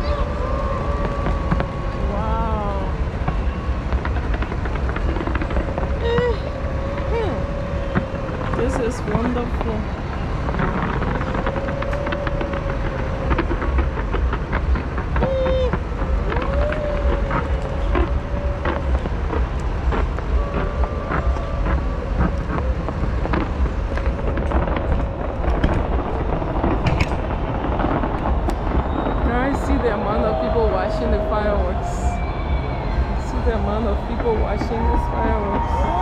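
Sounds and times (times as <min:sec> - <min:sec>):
fireworks cracking and popping: 0:00.0 - 0:36.0
heavy low rumble: 0:00.0 - 0:36.0
large crowd noise: 0:00.0 - 0:36.0.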